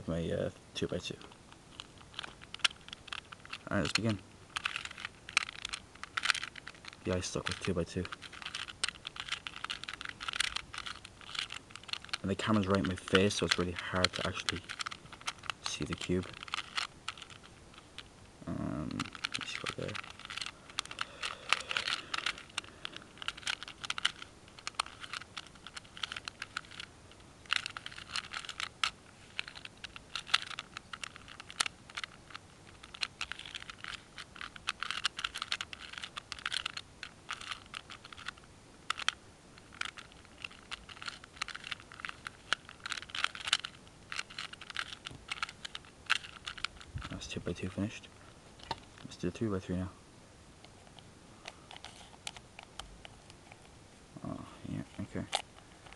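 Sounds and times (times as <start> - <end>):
puzzle cube plastic clicking: 0.8 - 49.5, 50.6 - 53.7, 54.3 - 55.9.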